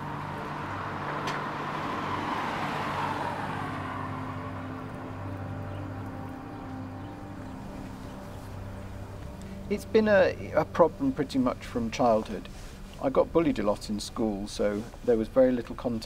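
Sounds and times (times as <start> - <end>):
car passing by: 0.0 - 15.2
low background music: 0.0 - 16.0.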